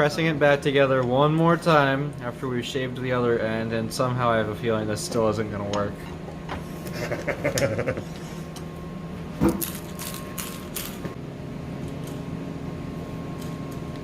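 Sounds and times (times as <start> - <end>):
low shop hum: 0.0 - 14.0.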